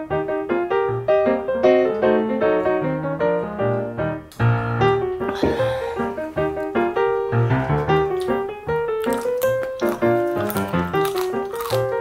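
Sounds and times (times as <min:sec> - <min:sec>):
light piano music with bass: 0:00.0 - 0:12.0.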